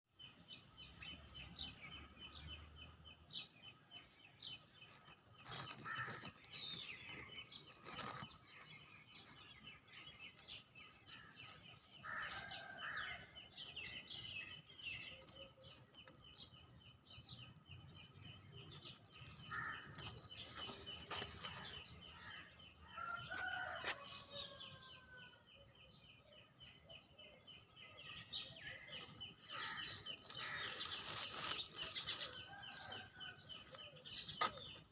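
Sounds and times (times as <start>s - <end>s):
faint birds chirping: 0.2s - 34.9s.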